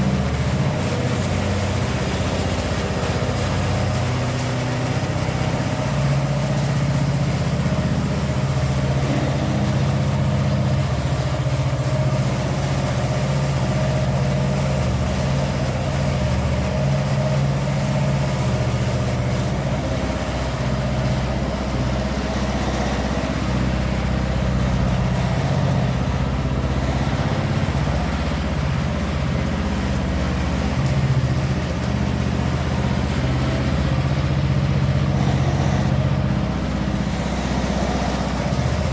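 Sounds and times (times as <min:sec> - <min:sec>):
construction machine engine running: 0:00.0 - 0:38.9.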